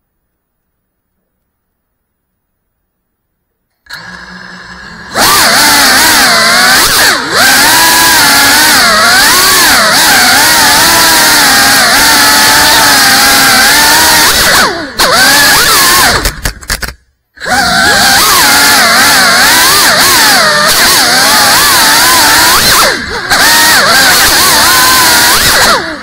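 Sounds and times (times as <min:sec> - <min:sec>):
drone motors whining: 0:03.8 - 0:16.5, 0:17.4 - 0:26.0.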